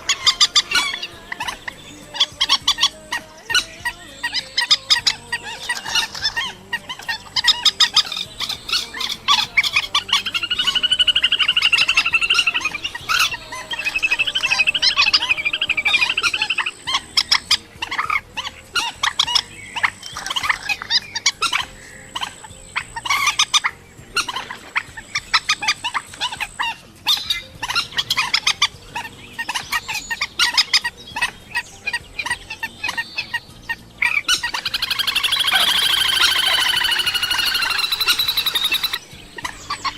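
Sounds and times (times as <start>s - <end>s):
songbird chattering and trilling: 0.0s - 39.9s.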